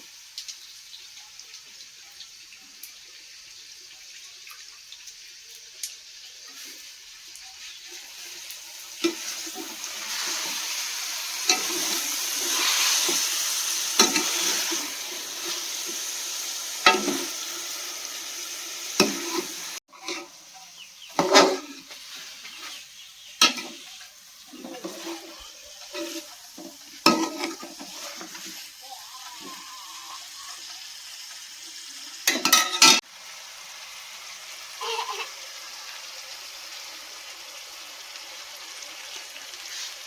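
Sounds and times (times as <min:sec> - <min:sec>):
chicken feet sizzling in pan: 0:00.0 - 0:40.0.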